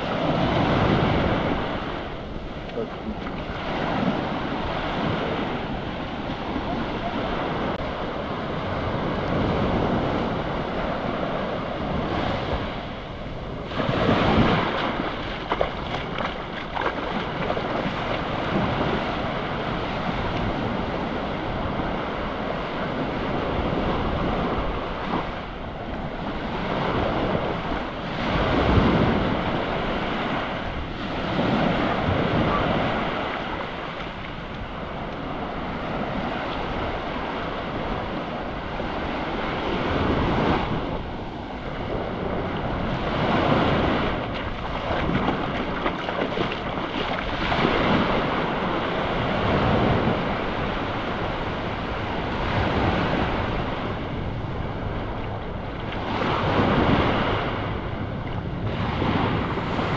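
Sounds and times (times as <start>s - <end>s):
ocean waves breaking: 0.0s - 59.9s
wind buffeting microphone: 0.0s - 59.9s.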